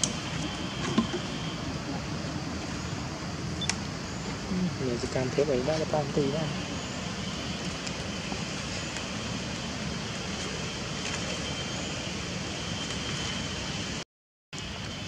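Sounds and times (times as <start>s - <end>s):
outdoor background noise: 0.0s - 14.0s, 14.6s - 15.0s.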